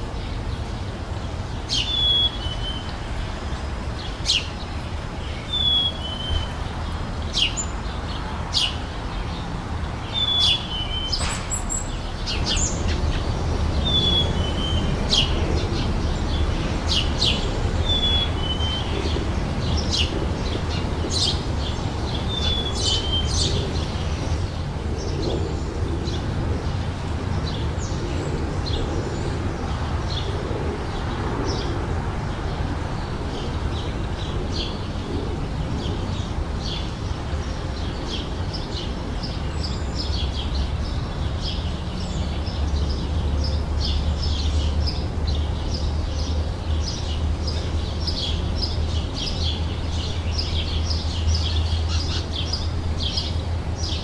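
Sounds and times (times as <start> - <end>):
small birds chirping: 0.2 - 31.8, 33.0 - 54.0.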